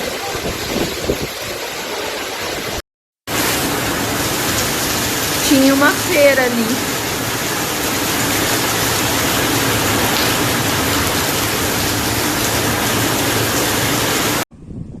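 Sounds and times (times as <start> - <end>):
heavy rain pouring: 0.0 - 14.4.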